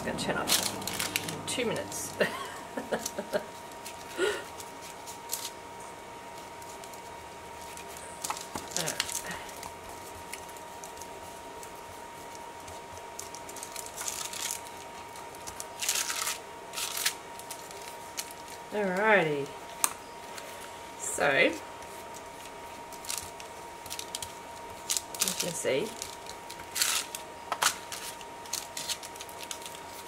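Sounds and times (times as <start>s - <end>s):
paper rustling and crinkling: 0.2s - 1.8s, 2.9s - 19.0s, 21.8s - 30.0s.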